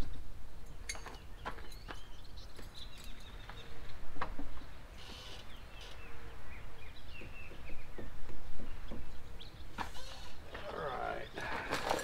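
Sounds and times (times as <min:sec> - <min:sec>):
birds chirping: 0:00.0 - 0:12.0
low wind rumble: 0:00.0 - 0:12.0.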